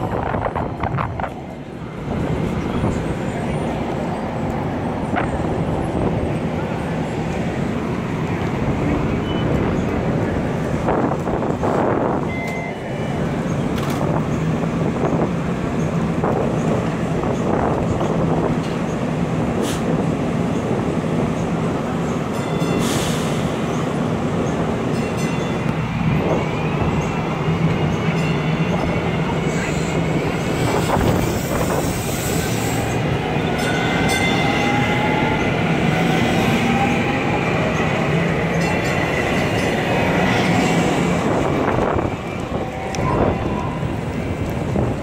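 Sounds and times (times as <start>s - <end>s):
wheels rumbling on rails: 0.0s - 45.0s.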